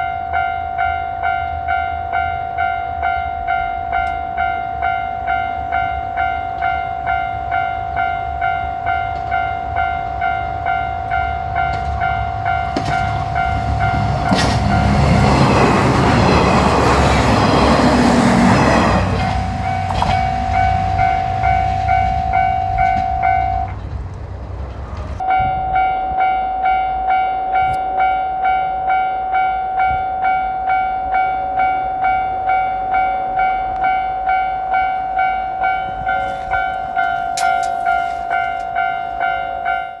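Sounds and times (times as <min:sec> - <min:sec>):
level crossing warning bell: 0:00.0 - 0:23.9, 0:25.1 - 0:40.0
diesel train engine and wheels: 0:00.0 - 0:40.0.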